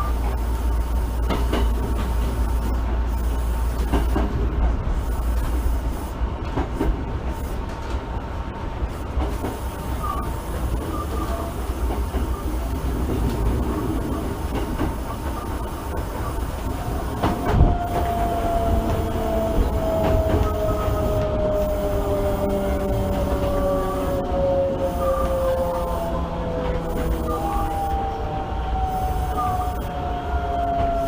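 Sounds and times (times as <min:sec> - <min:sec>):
rail joint clicks: 0:00.0 - 0:31.0
rumble of train wheels on rail: 0:00.0 - 0:31.0.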